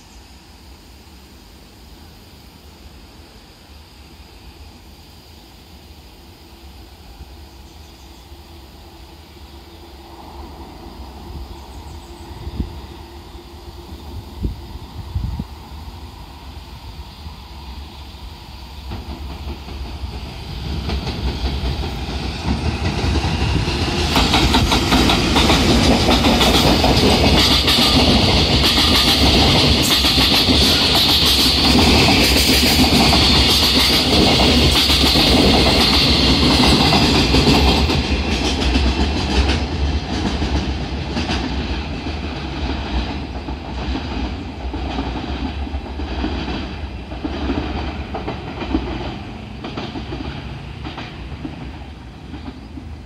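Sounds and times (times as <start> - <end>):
freight train rumbling over rail joints: 0.0 - 53.0.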